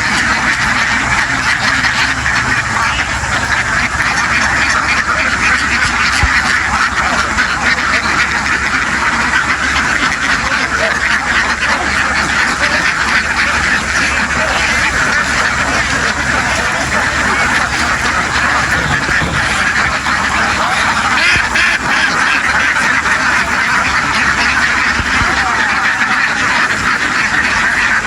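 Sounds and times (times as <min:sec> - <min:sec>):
flock of ducks quacking: 0:00.0 - 0:28.0.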